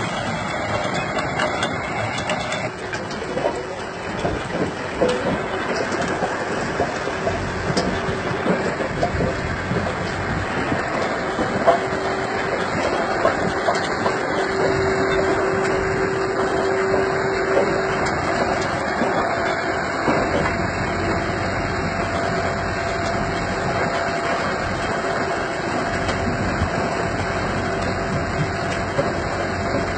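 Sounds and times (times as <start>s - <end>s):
machinery rattling and clattering: 0.0s - 29.9s
tractor engine under load: 0.0s - 29.9s.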